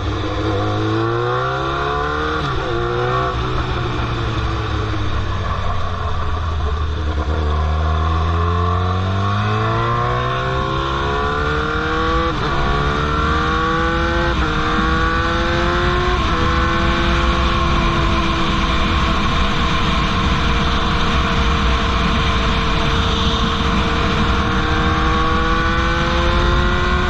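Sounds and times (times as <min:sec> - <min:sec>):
motorcycle engine revving and shifting: 0:00.0 - 0:27.0.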